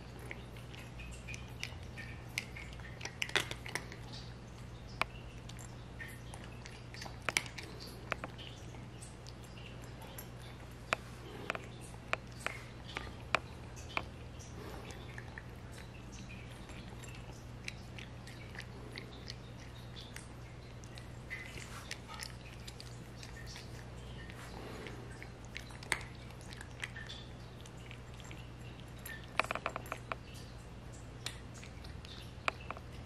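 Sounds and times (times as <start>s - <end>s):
cat crunching dry kibble: 0.0s - 30.2s.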